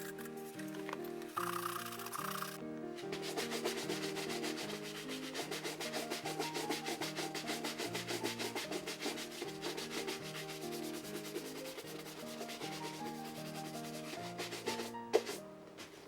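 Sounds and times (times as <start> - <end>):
hand sanding strokes: 1.5 - 16.0.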